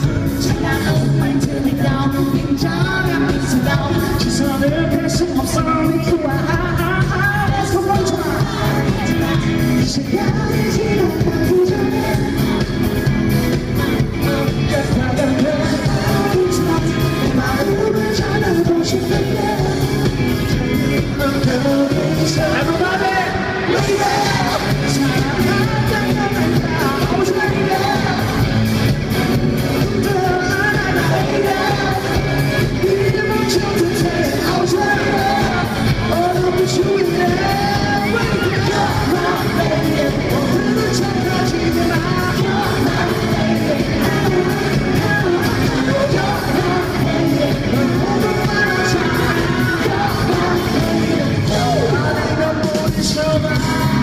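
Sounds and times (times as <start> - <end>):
live pop-rock band playing: 0.0 - 54.0
man singing: 0.0 - 54.0.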